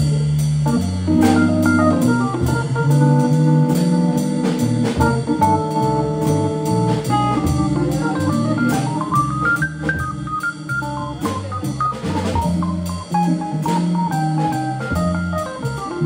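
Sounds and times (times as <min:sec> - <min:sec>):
bass guitar line: 0:00.0 - 0:16.0
drums on cymbals: 0:00.0 - 0:16.0
electric keyboard chords: 0:00.0 - 0:16.0.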